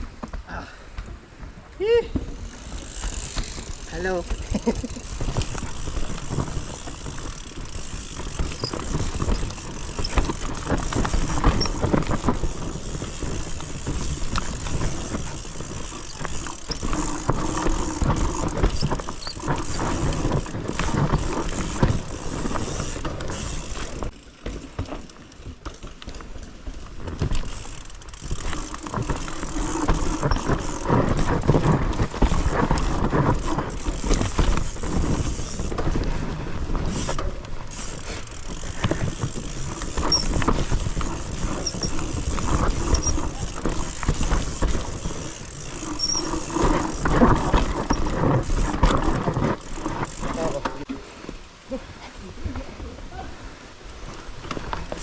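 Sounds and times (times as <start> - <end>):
bike tyres on dirt: 0.0 - 55.0
bike chain and parts rattling: 2.2 - 51.7, 54.6 - 55.0.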